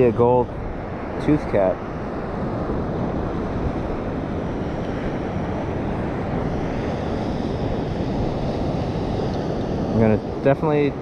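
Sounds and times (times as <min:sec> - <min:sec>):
wind and surf roaring: 0:00.0 - 0:11.0
wind buffeting microphone: 0:00.0 - 0:11.0.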